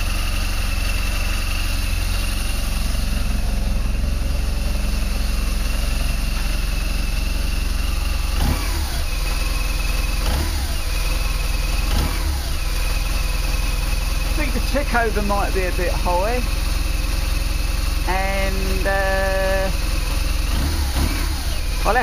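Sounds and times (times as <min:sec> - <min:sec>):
engine revs blipped: 0:00.0 - 0:22.0
motorcycle engine idling: 0:00.0 - 0:22.0.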